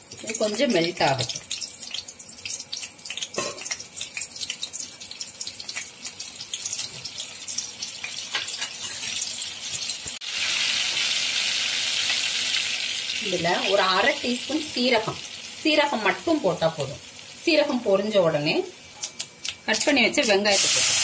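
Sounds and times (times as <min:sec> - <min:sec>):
butter crackling in hot oil: 0:00.0 - 0:17.1
steady sizzle: 0:00.0 - 0:21.0.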